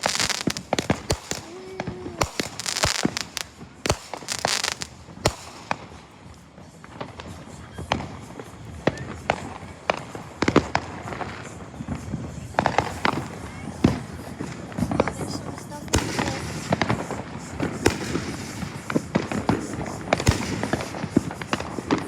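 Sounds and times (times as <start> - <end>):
firework hissing burst: 0.0 - 6.3, 7.0 - 22.0
firework cracks: 0.0 - 22.0
fireworks bangs and pops: 0.0 - 22.0.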